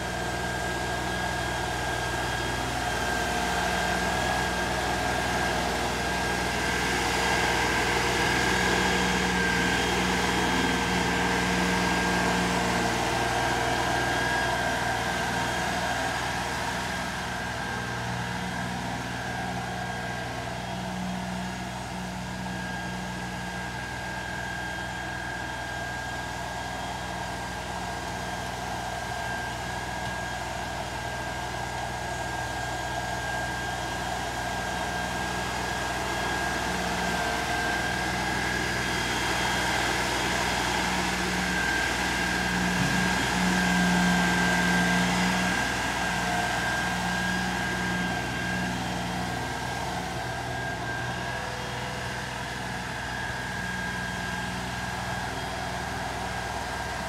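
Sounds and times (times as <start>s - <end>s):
thin steady whine: 0.0s - 57.0s
tractor diesel engine under load: 0.0s - 57.0s.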